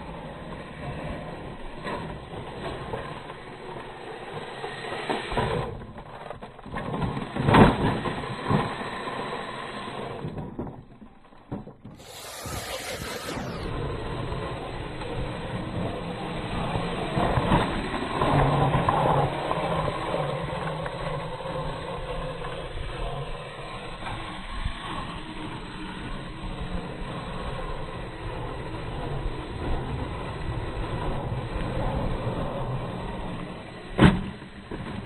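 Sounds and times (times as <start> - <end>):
toy car electric motor and gears: 2.0 - 10.5, 11.9 - 31.9.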